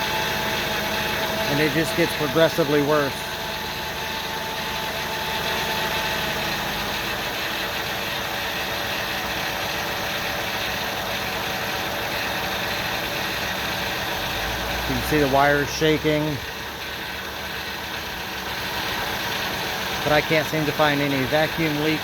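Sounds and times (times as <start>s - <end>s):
car engine idling roughly: 0.0s - 22.0s.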